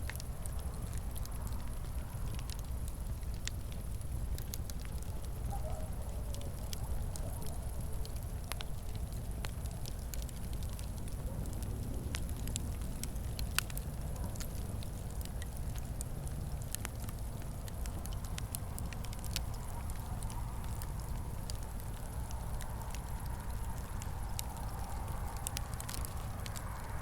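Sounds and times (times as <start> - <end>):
fire crackling: 0.0 - 27.0
fire snapping and popping: 0.0 - 27.0.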